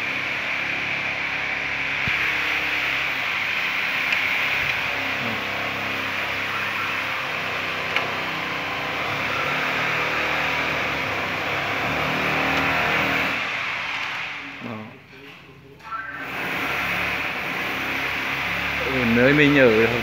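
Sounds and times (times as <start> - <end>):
engine and traffic noise: 0.0 - 20.0.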